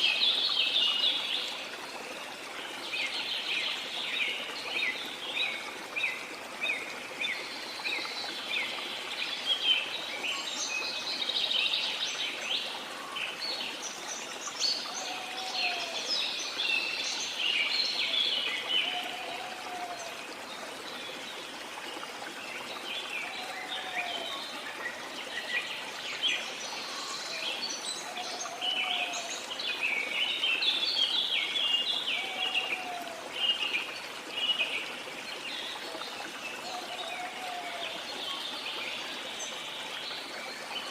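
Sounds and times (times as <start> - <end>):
falling water rushing: 0.0 - 40.9.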